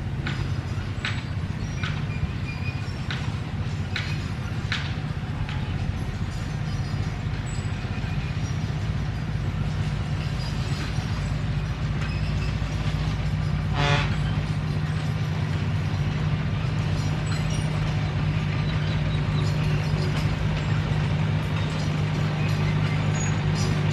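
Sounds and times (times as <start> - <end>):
bulldozer diesel engine running: 0.0 - 23.9.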